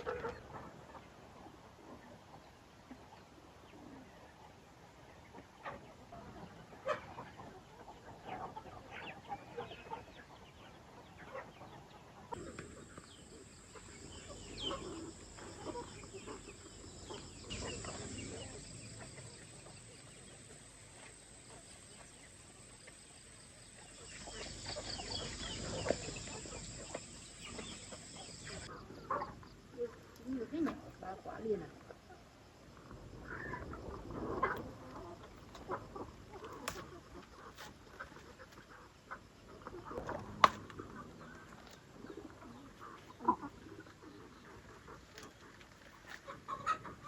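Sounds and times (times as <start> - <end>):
chickens clucking: 0.0 - 30.9, 33.0 - 47.0.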